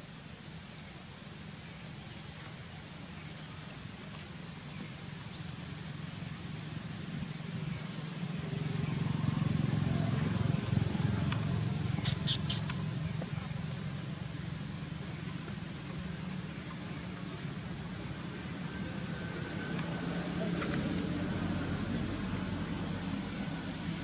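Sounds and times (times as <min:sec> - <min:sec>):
vehicle engine humming: 0:04.3 - 0:24.0.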